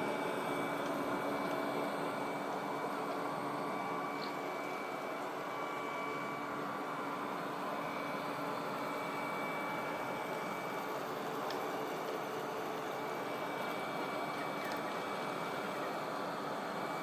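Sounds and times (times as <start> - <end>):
vacuum cleaner motor running: 0.0 - 17.0.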